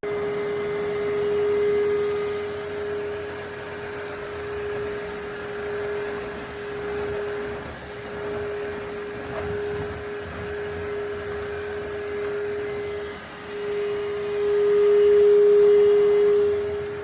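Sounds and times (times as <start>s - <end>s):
stick vacuum motor whine: 0.0s - 17.0s
rushing air hiss: 0.1s - 17.0s.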